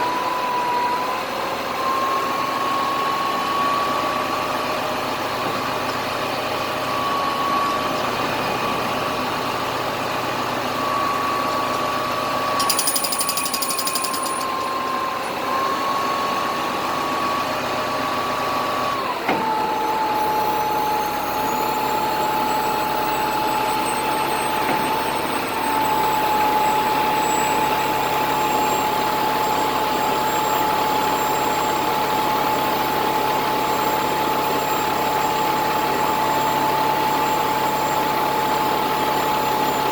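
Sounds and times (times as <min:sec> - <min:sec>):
crane engine running: 0:00.0 - 0:39.9.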